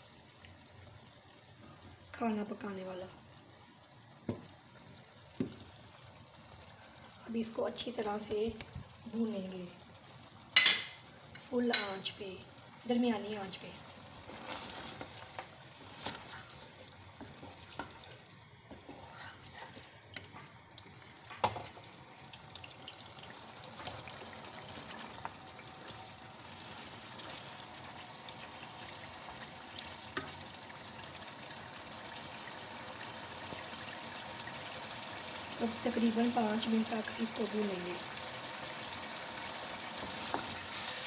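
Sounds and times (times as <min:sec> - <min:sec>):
meat sizzling and crackling in oil: 0:00.0 - 0:41.0.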